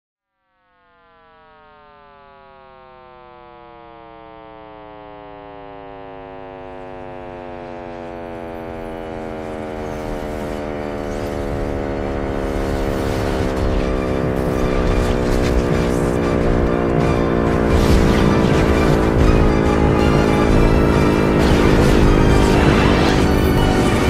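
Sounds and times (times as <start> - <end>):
buzzy electronic tone sliding down: 0.5 - 24.0.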